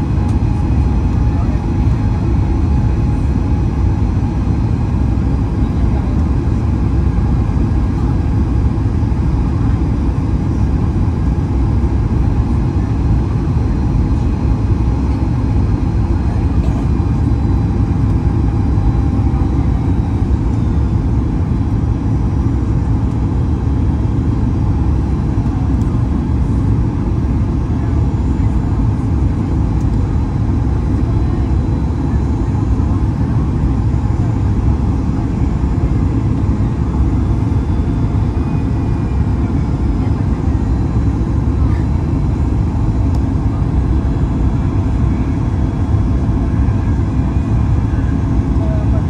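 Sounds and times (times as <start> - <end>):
jet engines humming: 0.0 - 49.0.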